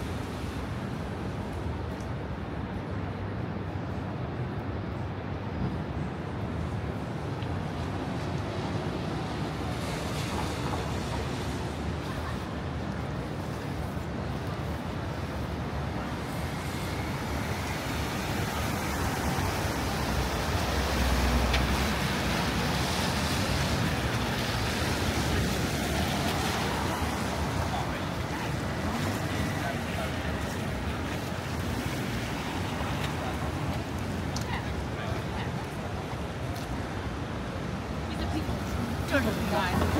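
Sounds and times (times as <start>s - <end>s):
tyres hissing on wet road: 7.0s - 39.9s.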